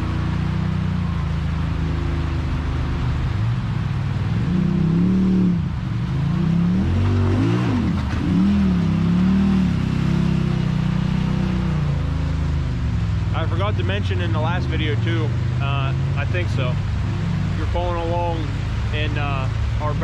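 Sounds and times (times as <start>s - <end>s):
utility vehicle engine revving: 0.0s - 20.0s.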